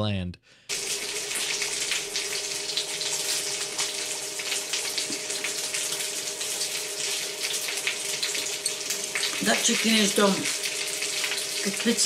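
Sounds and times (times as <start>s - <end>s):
food sizzling in a pan: 0.7s - 12.0s.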